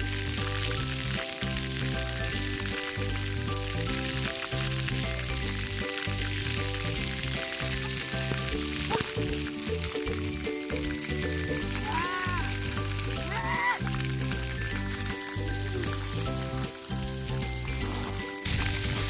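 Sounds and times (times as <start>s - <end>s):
background music with pulsing bass: 0.0s - 19.0s
water jets spraying: 0.0s - 19.0s.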